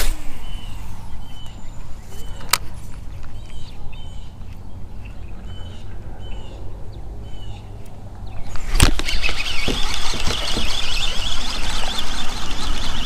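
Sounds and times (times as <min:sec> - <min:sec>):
bird chirping: 0:00.3 - 0:13.0.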